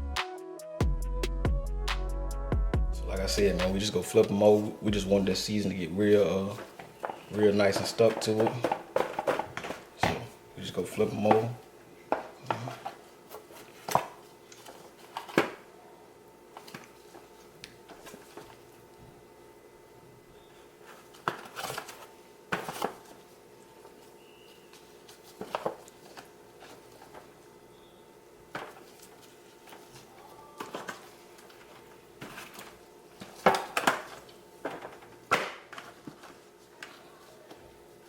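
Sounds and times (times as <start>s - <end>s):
faint hum: 1.7s - 38.0s.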